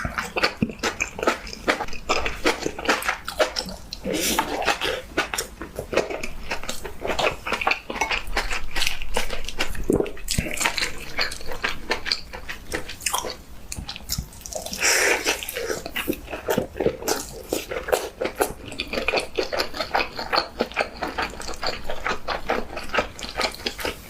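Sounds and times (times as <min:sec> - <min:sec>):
wet chewing and slurping: 0:00.0 - 0:24.0.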